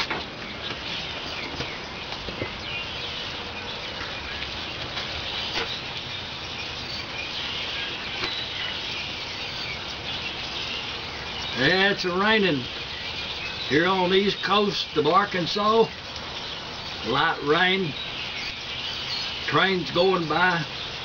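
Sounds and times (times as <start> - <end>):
light rain falling: 0.0 - 21.0
raindrops tapping: 0.0 - 21.0.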